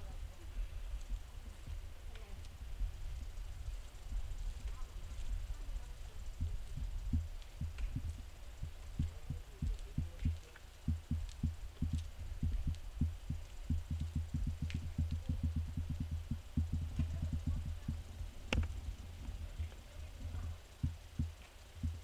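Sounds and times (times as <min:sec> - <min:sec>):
steady low rumble: 0:00.0 - 0:22.0
low thumps on microphone: 0:02.8 - 0:22.0.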